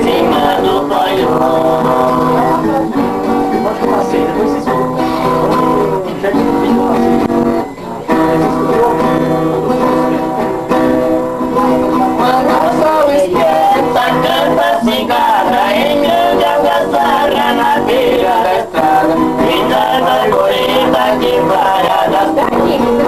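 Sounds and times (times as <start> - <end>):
men singing country song: 0.0 - 10.7, 11.6 - 23.0
viola and acoustic guitar: 0.0 - 23.0.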